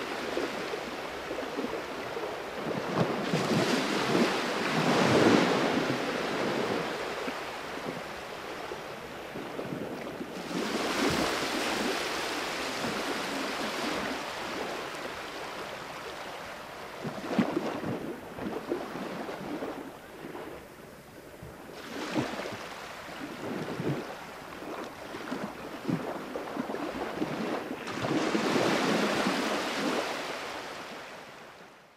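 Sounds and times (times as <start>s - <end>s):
wind buffeting microphone: 0.0s - 30.1s.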